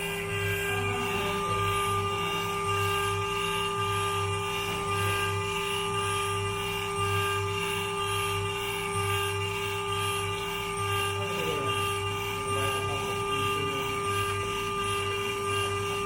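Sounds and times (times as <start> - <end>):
grinding spindle whine: 0.0 - 16.0
low pulsing hum: 0.0 - 16.0.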